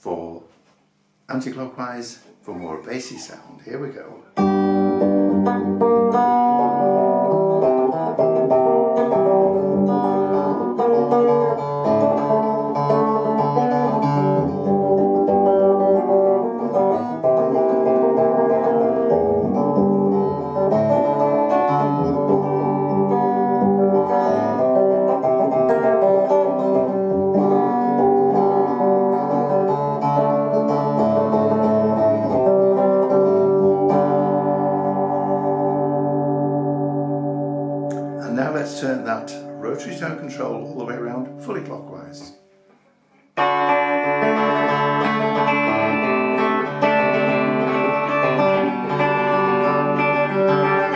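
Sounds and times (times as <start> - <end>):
electric guitar notes and chords: 4.4 - 41.8, 43.4 - 50.9.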